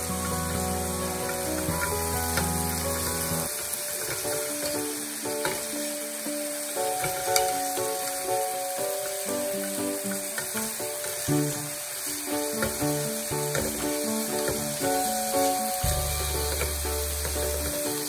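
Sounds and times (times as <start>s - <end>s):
meat sizzling on a grill: 0.0s - 18.0s.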